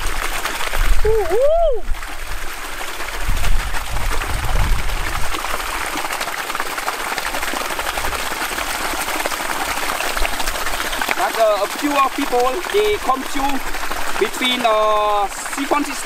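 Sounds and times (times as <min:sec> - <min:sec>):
water pouring from pipe: 0:00.0 - 0:16.0.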